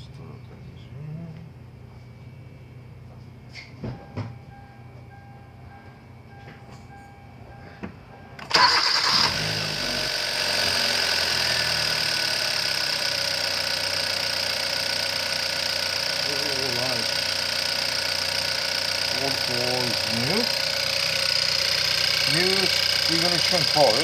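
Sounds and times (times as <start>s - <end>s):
car engine starting and idling: 3.5s - 24.0s.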